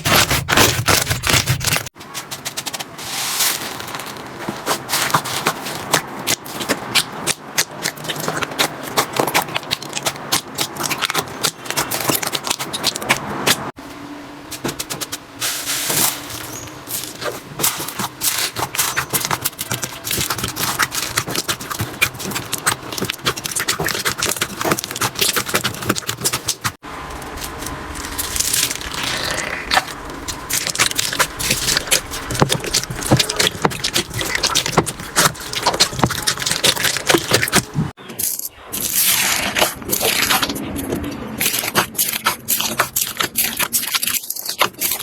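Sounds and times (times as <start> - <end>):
slime crackling and popping: 3.4 - 13.6, 17.6 - 26.7, 27.4 - 45.0.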